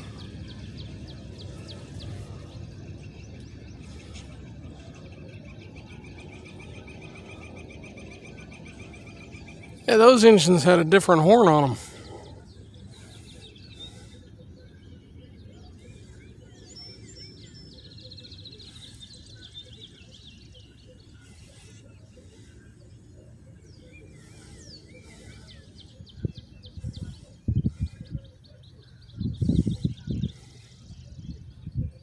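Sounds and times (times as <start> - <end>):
songbirds chirping and trilling: 0.0 - 32.0.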